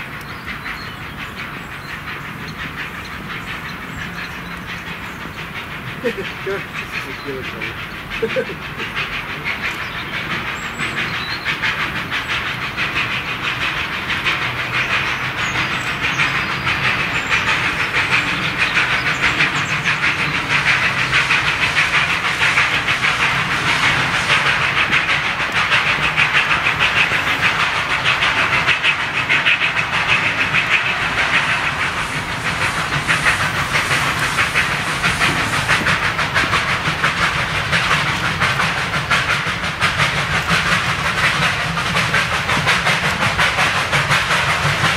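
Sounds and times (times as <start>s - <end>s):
steam hissing: 0.0s - 44.9s
steam locomotive exhaust chuffs: 0.0s - 44.9s
wheels running on rails: 0.0s - 44.9s.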